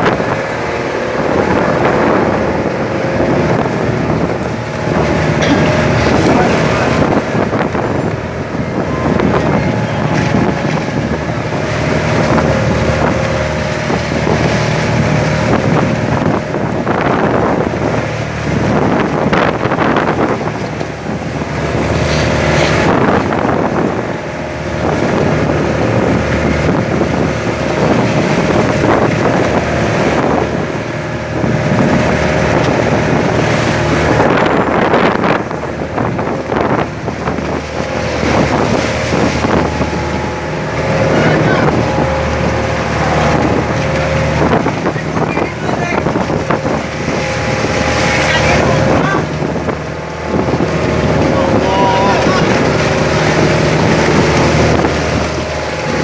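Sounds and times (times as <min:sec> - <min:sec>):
boat engine running: 0:00.0 - 0:56.0
water rushing: 0:00.0 - 0:56.0
wind buffeting microphone: 0:00.0 - 0:56.0.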